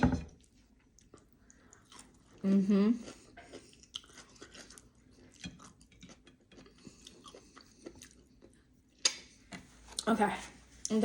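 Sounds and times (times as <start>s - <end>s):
chewing food: 0.4s - 10.1s.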